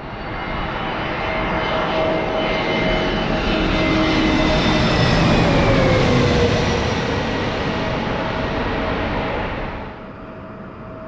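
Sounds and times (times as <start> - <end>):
jet airliner engines passing: 0.1 - 11.0.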